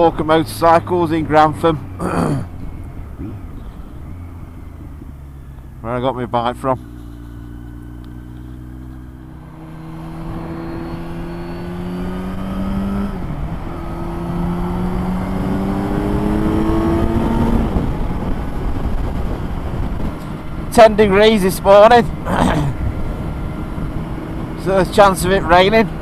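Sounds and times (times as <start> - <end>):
motorcycle engine accelerating: 0.0 - 26.0
wind and road noise: 0.0 - 26.0.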